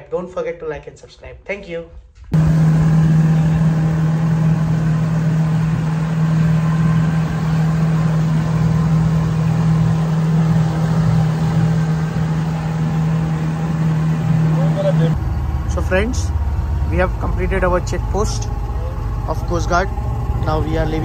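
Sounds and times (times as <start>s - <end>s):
outboard motor droning: 2.4s - 21.0s.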